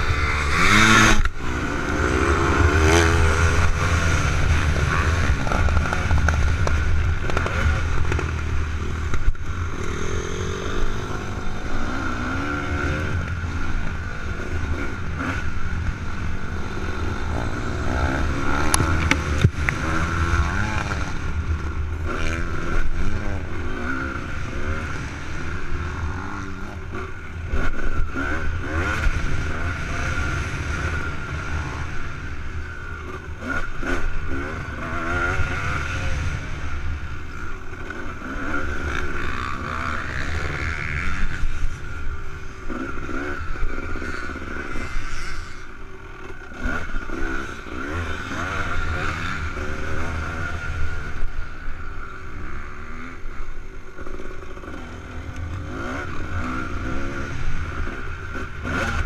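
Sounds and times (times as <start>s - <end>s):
two-stroke engine revving: 0.0s - 59.0s.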